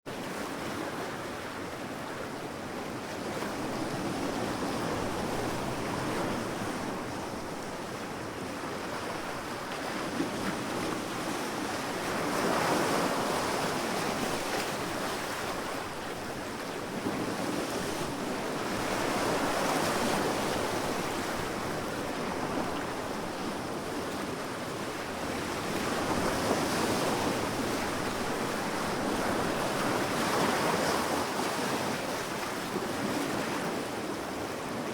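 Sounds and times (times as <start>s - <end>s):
sea waves breaking: 3.1s - 34.9s.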